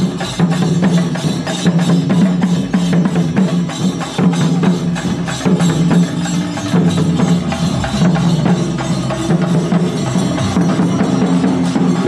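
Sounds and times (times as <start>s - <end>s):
fast drumming with sticks: 0.0s - 12.0s.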